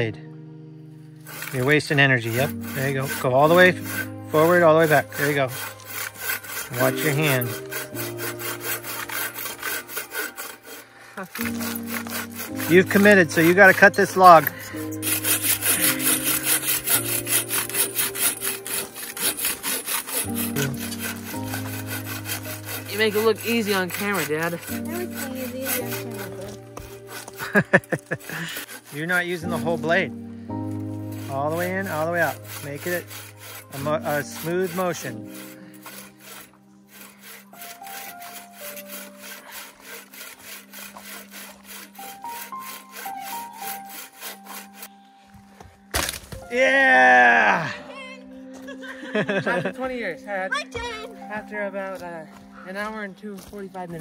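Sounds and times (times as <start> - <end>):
bow saw cutting log: 1.2 - 47.8, 48.6 - 49.8.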